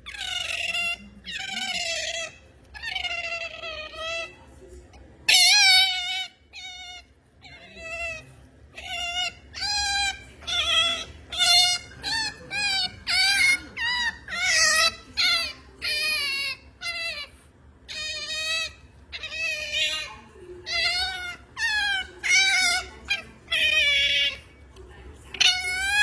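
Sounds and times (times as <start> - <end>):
otter squealing: 0.0 - 4.4, 5.3 - 24.6, 25.3 - 26.0.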